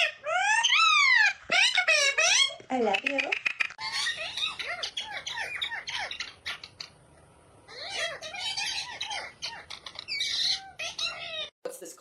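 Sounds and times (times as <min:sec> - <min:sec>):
parrot squawking: 0:00.0 - 0:11.5.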